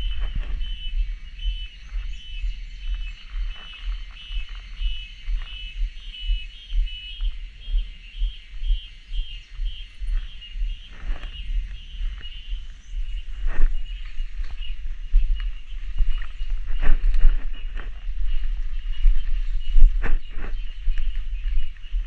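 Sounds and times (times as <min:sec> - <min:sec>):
cicadas calling: 0:00.0 - 0:22.0
regular low thumps: 0:00.0 - 0:22.0.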